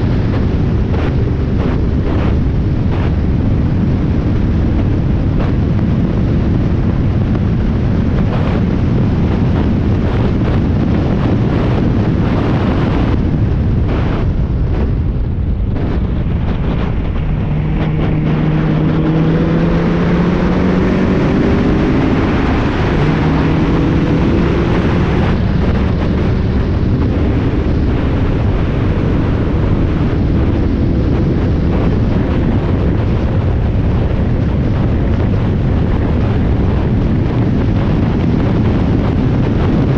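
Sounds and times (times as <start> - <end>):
car engine at speed: 0.0 - 39.9
wind noise on microphone: 0.0 - 39.9.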